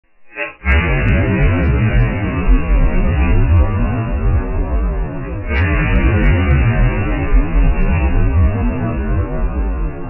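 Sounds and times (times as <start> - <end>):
music with heavy bass: 0.2 - 10.0.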